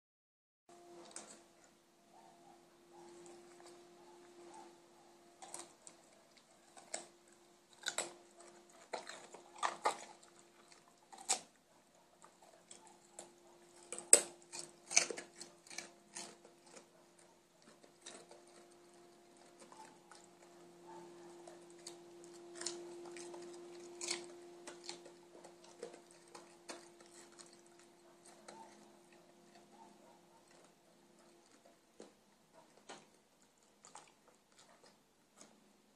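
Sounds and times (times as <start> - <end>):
dog crunching carrot: 1.0 - 2.3, 2.9 - 35.7.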